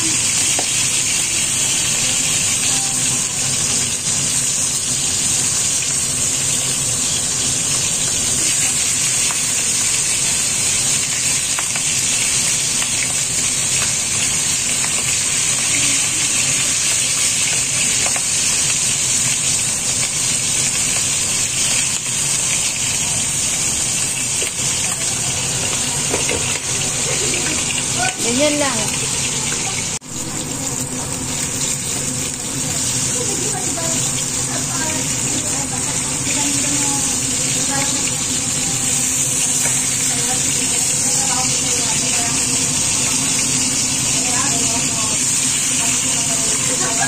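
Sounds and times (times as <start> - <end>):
fish frying in oil: 0.0 - 47.0.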